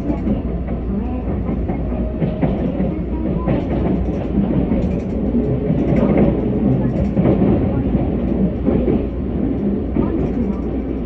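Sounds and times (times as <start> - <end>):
train low rumble: 0.0 - 11.0.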